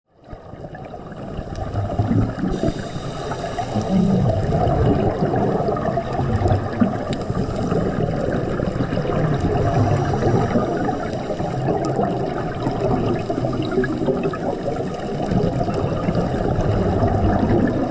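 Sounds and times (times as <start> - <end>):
muffled water sloshing and gurgling: 0.1 - 17.9.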